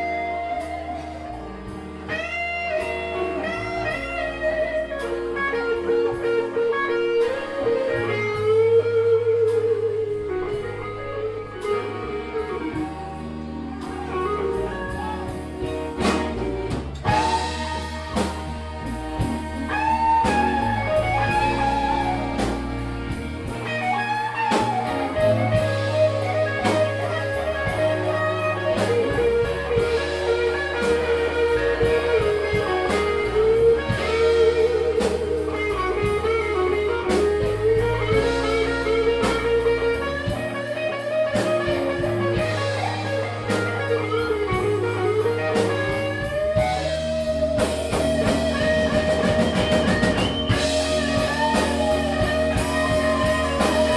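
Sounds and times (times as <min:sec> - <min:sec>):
bent wavering guitar lead: 0:00.0 - 0:53.9
electric blues band playing: 0:00.0 - 0:53.9.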